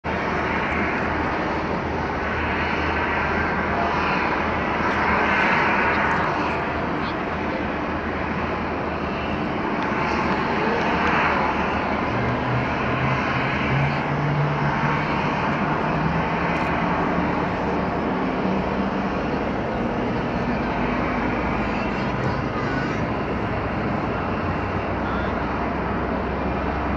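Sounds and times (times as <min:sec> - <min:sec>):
jet engine rumble: 0:00.0 - 0:26.9.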